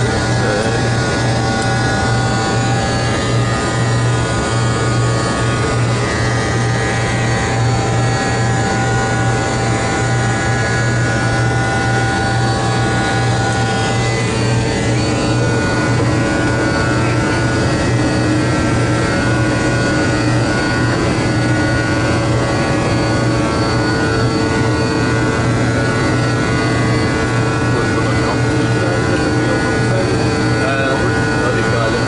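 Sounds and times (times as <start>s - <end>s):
cockpit jet drone: 0.0s - 32.0s
constant low hums: 0.0s - 32.0s.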